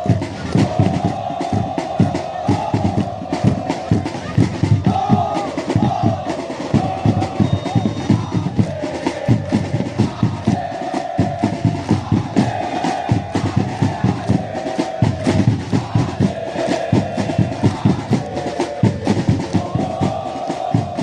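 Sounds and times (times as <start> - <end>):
crowd chanting: 0.0 - 21.0
drums beating fast rhythm: 0.0 - 21.0.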